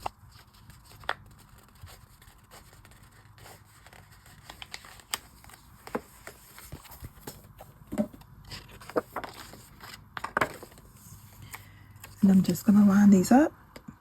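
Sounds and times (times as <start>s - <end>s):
paper rustling and scraping: 0.0s - 12.2s.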